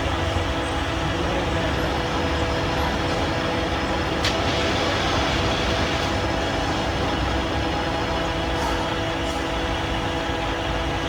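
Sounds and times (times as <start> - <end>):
milling machine humming: 0.0 - 11.0.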